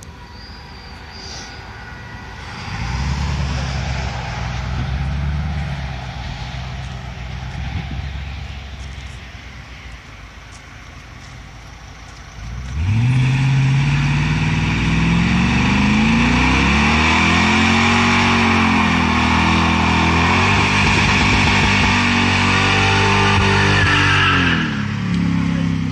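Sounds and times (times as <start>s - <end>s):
spinning tyres squealing: 0.0s - 25.7s
truck engine idling and revving: 0.0s - 25.9s.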